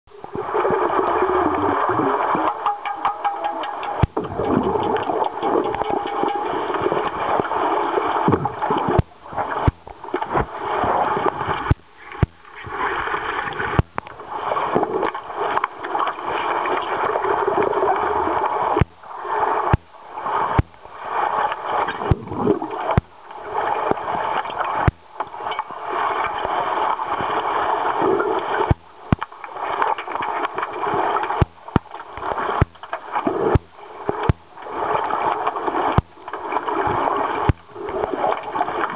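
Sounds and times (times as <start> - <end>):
pool water gurgling and splashing: 0.1 - 38.9.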